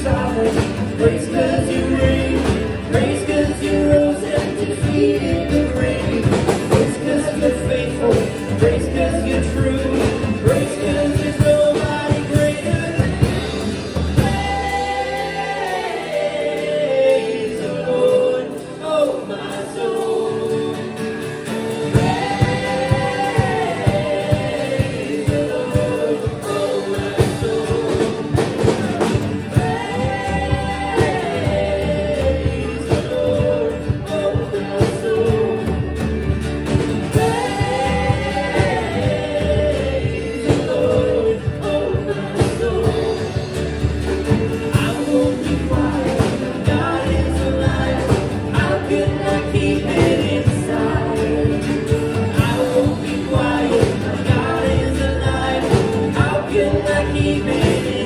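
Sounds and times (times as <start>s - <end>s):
acoustic guitar: 0.0s - 58.0s
bass: 0.0s - 58.0s
drums: 0.0s - 58.0s
people singing: 0.0s - 58.0s.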